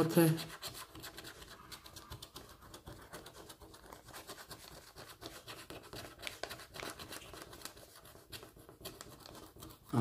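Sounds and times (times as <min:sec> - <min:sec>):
plastic scraper scratching ticket: 0:00.0 - 0:10.0.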